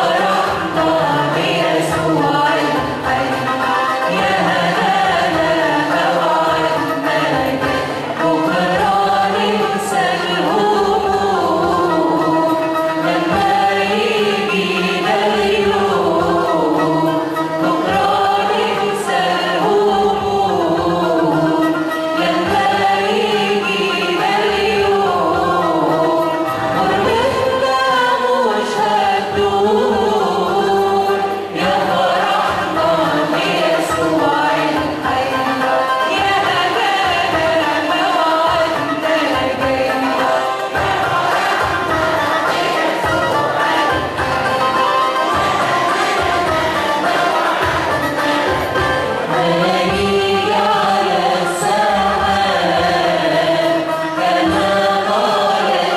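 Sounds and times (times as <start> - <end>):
choir singing a hymn: 0.0 - 55.9
instrumental accompaniment: 0.0 - 55.9.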